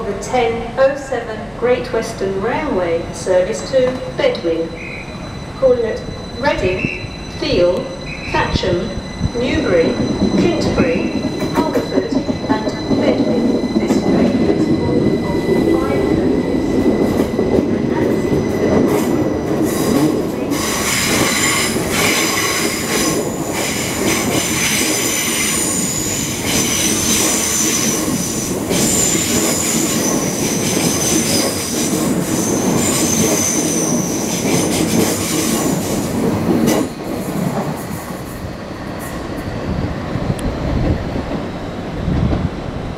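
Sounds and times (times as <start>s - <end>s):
train wheels squealing: 4.6s - 41.0s.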